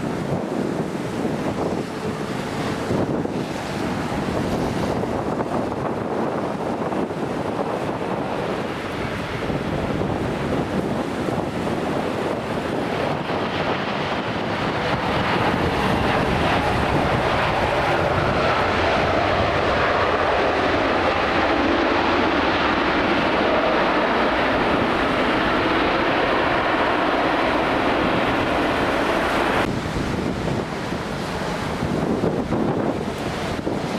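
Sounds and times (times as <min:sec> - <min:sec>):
jet airliner engines: 0:00.0 - 0:33.9
wind buffeting microphone: 0:00.0 - 0:33.9.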